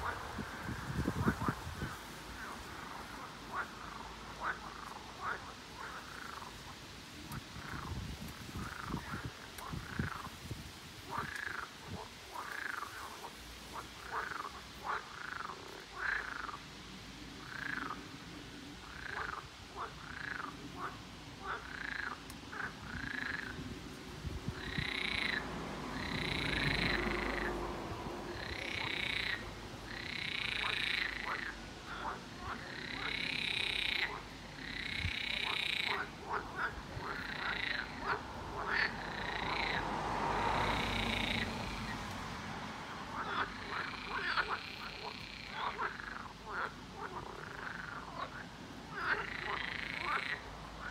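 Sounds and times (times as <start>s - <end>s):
frogs croaking: 0.0s - 50.9s.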